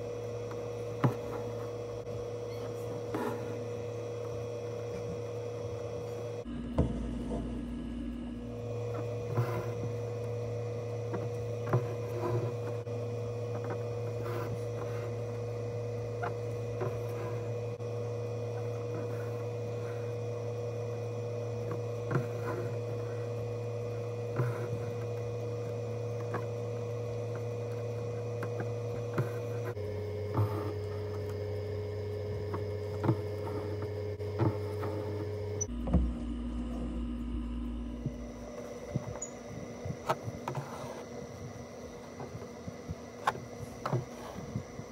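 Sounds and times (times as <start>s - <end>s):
electrical hum: 0.0s - 44.9s.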